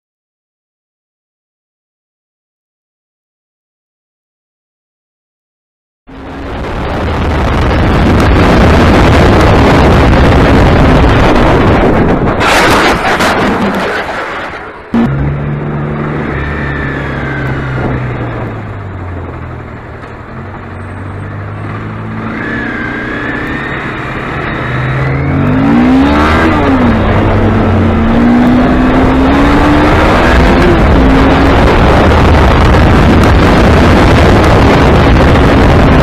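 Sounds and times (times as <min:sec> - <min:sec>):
racing car engine: 0:06.1 - 0:36.0.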